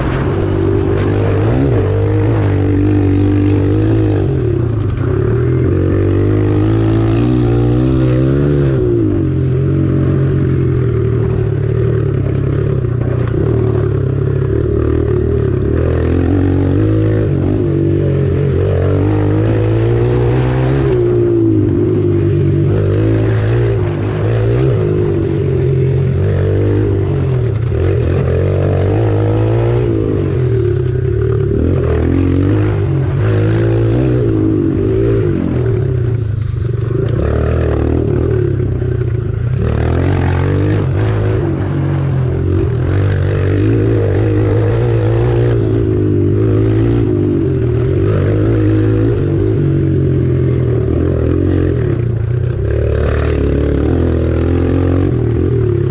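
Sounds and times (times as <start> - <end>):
low rumble: 0.0 - 55.9
motorcycle engine revving: 0.0 - 55.9.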